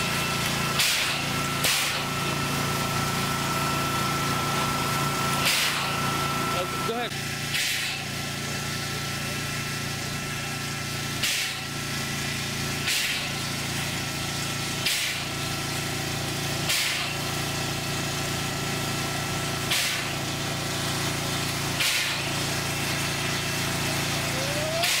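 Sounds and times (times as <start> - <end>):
steady mechanical hum: 0.0 - 25.0
steam hissing: 0.0 - 25.0.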